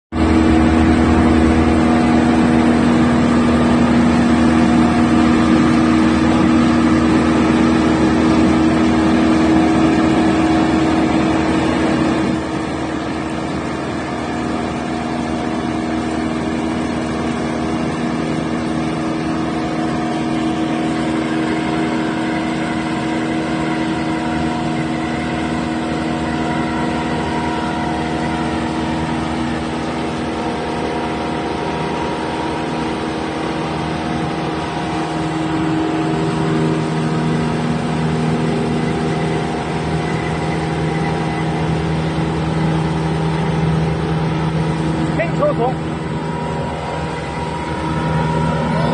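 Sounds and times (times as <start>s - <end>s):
wood chipper engine running: 0.1s - 48.9s.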